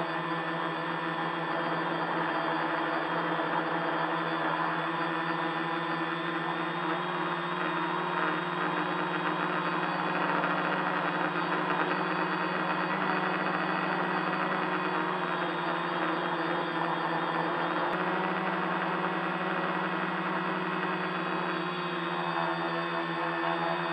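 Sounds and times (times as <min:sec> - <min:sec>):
electric motors and propellers droning: 0:00.0 - 0:23.9.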